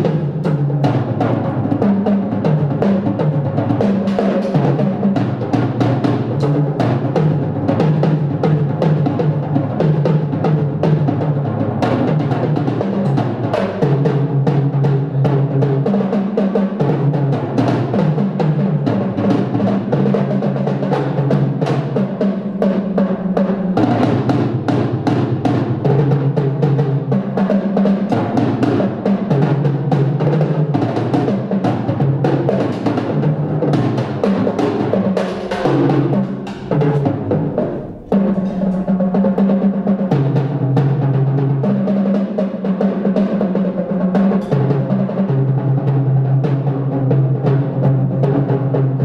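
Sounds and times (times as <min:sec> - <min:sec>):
tom-toms drumming with sticks: 0:00.0 - 0:49.0.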